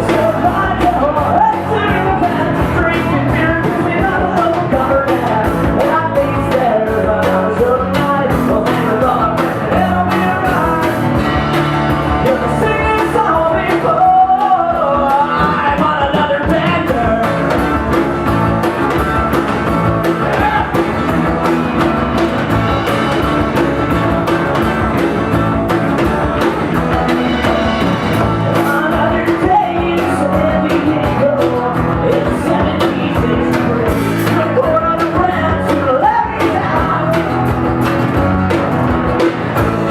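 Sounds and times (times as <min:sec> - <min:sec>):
person singing: 0:00.0 - 0:23.0, 0:25.9 - 0:37.8.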